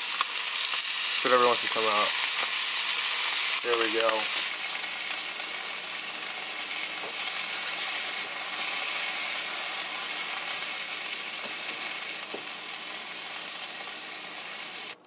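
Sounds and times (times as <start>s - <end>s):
fish frying in butter: 0.0s - 15.0s.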